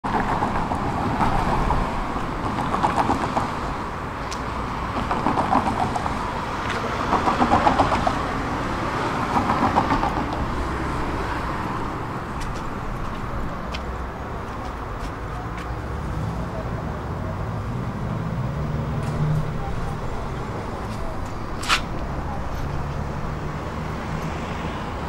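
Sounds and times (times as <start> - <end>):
cars driving past: 0.1 - 25.0.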